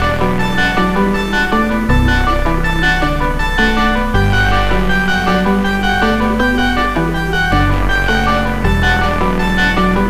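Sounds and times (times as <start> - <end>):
instrumental music with bass notes: 0.0 - 10.0.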